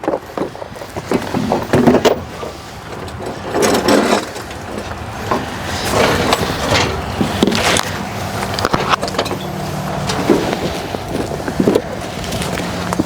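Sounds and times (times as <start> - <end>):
scraping and rustling: 0.0 - 13.0
tools clanking on metal: 0.0 - 13.0.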